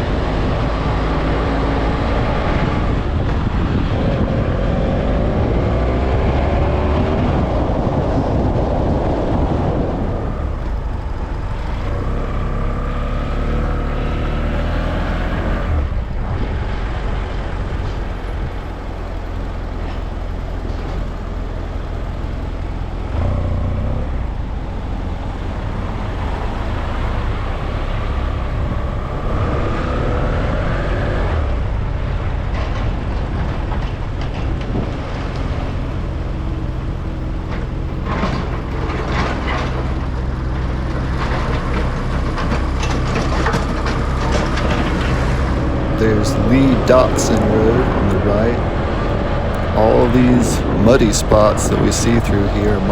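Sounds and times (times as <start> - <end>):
tyre and wind noise: 0.0 - 51.0
vehicle engine drone: 0.0 - 52.9.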